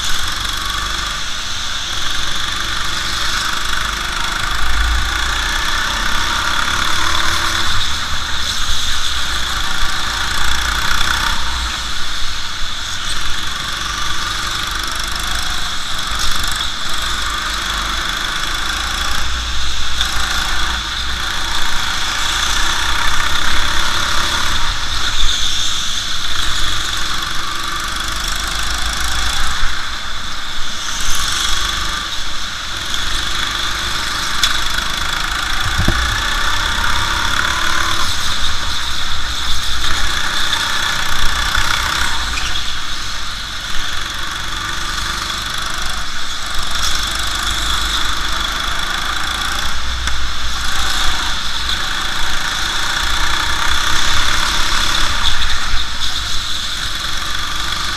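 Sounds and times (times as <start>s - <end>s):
go-kart engine running: 0.0s - 57.9s.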